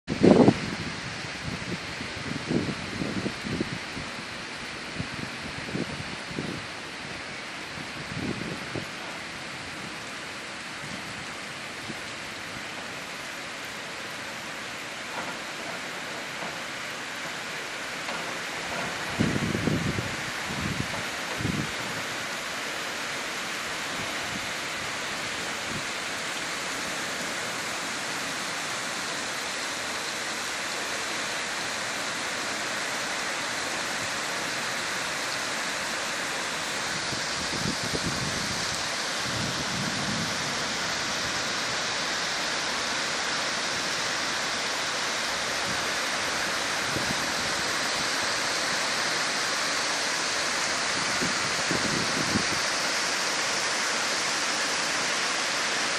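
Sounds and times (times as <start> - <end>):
heavy rain pouring: 0.1 - 55.9.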